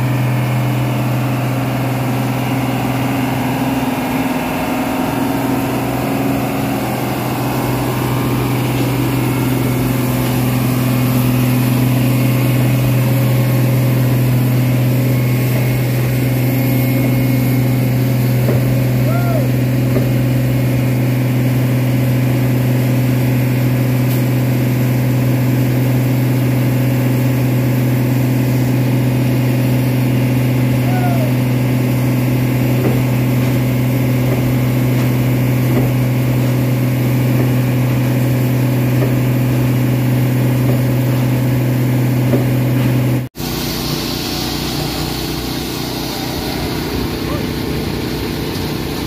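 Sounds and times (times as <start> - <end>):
diesel engine running steadily: 0.0 - 49.0.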